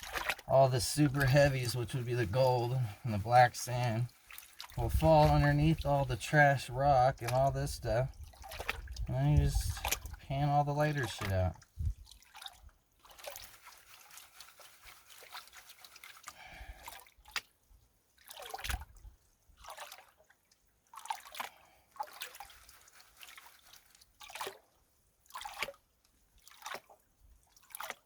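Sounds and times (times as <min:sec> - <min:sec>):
water sloshing in a pan: 0:00.0 - 0:28.0.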